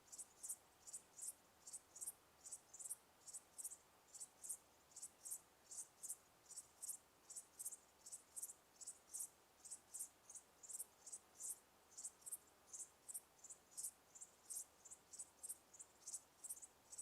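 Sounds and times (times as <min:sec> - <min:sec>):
faint cricket chirping: 0:00.0 - 0:17.0.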